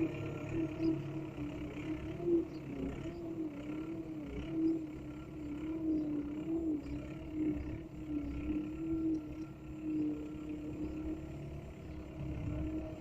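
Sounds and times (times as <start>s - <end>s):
small motor whining: 0.0s - 13.0s.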